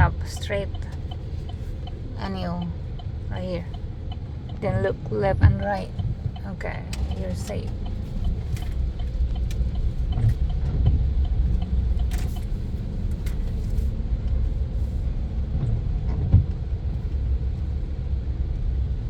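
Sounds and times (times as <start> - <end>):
pickup truck rumble from inside: 0.0 - 19.0.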